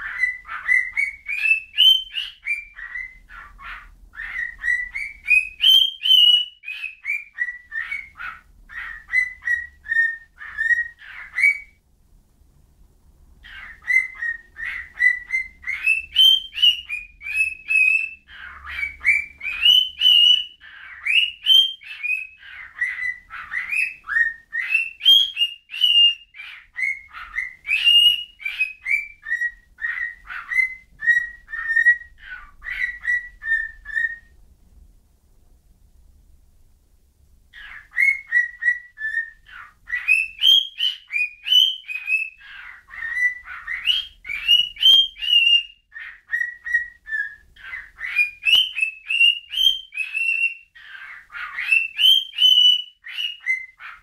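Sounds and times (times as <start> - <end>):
pet bird whistling: 0.0 - 11.8, 13.4 - 34.3, 37.6 - 54.0.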